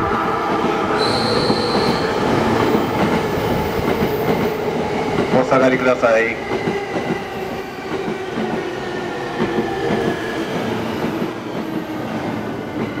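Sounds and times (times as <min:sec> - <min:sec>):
steady train whine: 0:00.0 - 0:13.0
train rumbling slowly: 0:00.0 - 0:13.0.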